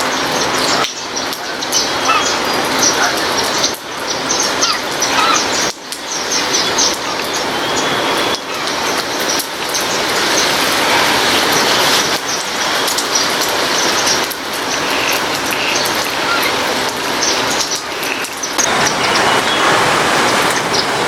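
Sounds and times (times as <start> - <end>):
small birds chirping: 0.0 - 19.8
steady rain: 0.0 - 21.0.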